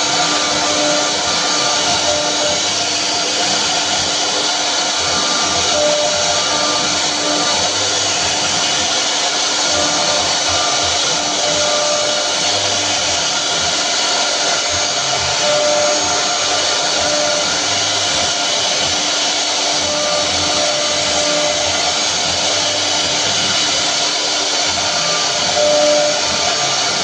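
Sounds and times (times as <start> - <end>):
woodworking machine whining: 0.0 - 27.0.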